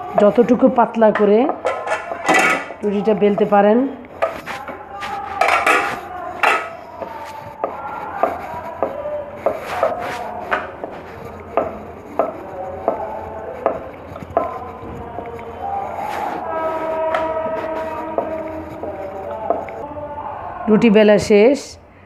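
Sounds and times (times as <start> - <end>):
rolling pin rubbing dough: 0.0 - 19.8.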